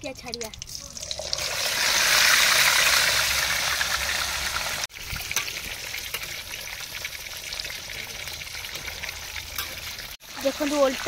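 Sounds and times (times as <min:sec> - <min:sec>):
fish sizzling in hot oil: 0:00.0 - 0:11.0
oil popping and crackling: 0:00.0 - 0:11.0.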